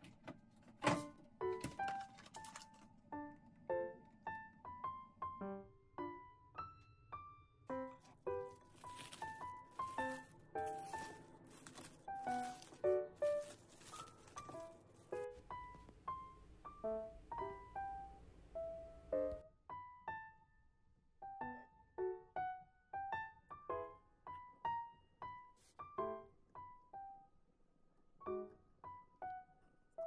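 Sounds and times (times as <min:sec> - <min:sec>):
piano melody: 0:00.8 - 0:27.4, 0:28.2 - 0:30.0.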